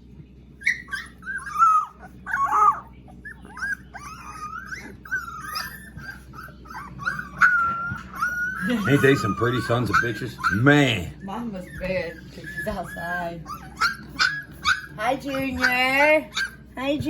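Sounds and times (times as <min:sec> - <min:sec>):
puppies whining: 0:00.1 - 0:17.0.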